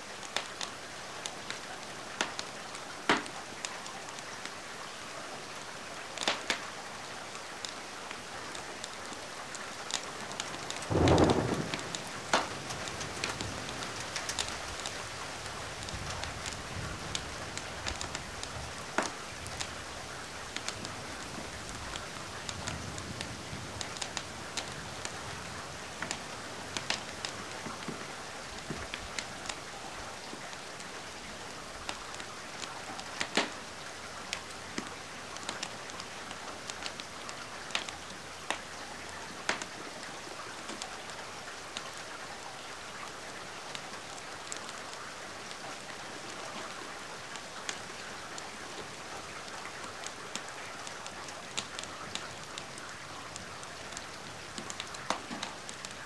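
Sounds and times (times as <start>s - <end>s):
steady rain hiss: 0.0s - 56.0s
wood fire crackling: 0.2s - 42.4s, 43.0s - 56.0s.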